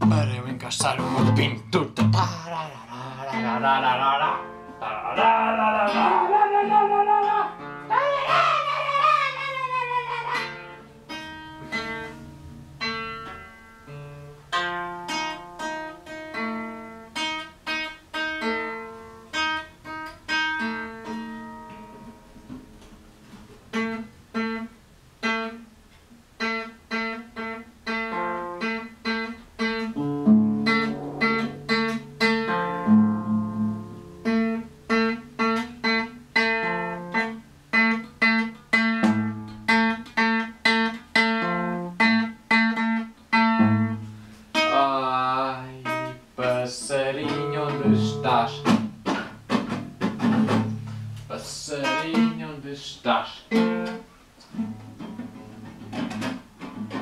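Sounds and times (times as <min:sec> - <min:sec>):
guitar plucked notes and chords: 0:00.0 - 0:52.6, 0:53.5 - 0:57.0.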